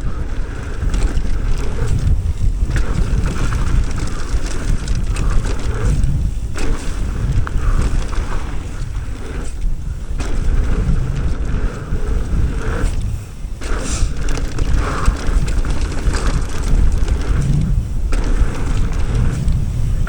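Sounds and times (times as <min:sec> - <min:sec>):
bike tyres rolling on dirt: 0:00.0 - 0:20.0
wind on microphone: 0:00.0 - 0:20.0.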